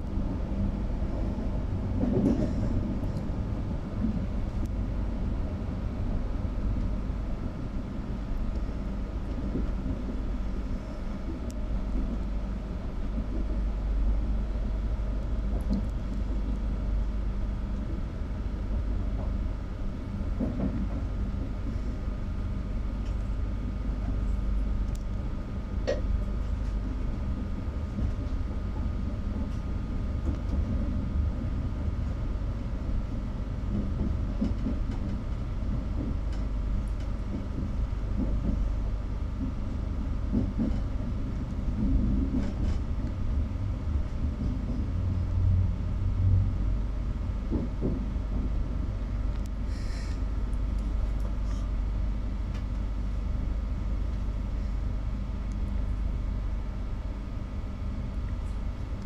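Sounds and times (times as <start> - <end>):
train wheels rumbling on track: 0.0 - 58.9
faint steady hum: 0.0 - 59.0.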